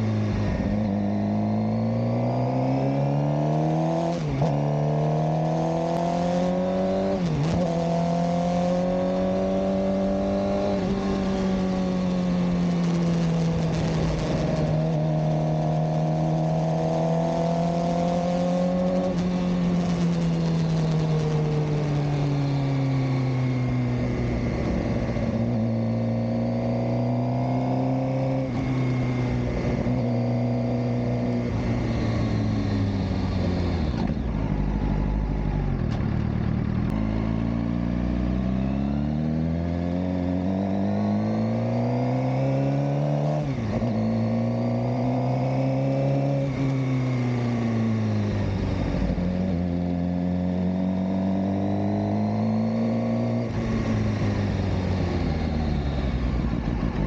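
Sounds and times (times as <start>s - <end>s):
road and wind noise: 0.0s - 57.0s
motorcycle engine running: 5.9s - 41.6s, 46.6s - 57.0s.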